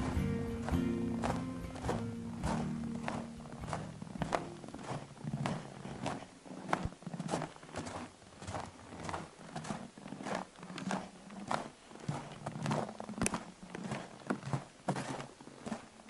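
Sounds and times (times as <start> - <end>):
footsteps in snow: 0.0 - 16.0.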